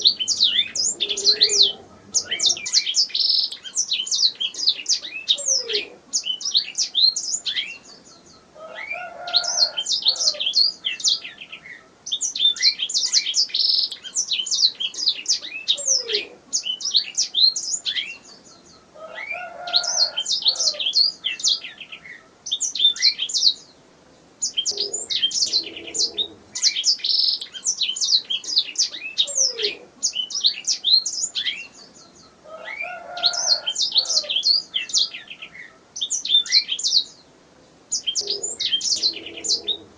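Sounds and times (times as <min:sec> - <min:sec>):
canary singing: 0:00.0 - 0:23.7, 0:24.4 - 0:37.2, 0:37.9 - 0:39.9.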